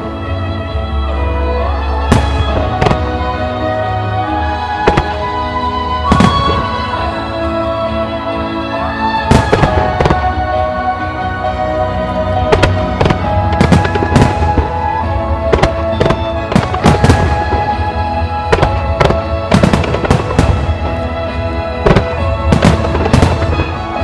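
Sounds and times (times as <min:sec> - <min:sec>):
music: 0:00.0 - 0:24.0
fireworks bangs and crackles: 0:01.6 - 0:07.2, 0:09.2 - 0:24.0.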